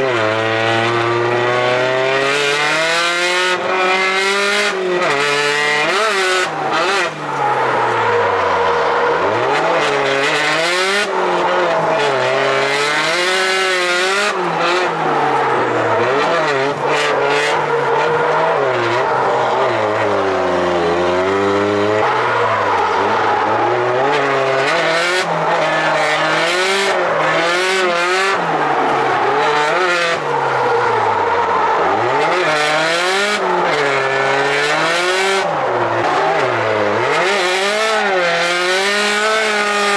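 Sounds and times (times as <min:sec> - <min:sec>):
car engine revving hard: 0:00.0 - 0:39.9
tyre squeal: 0:04.1 - 0:39.9.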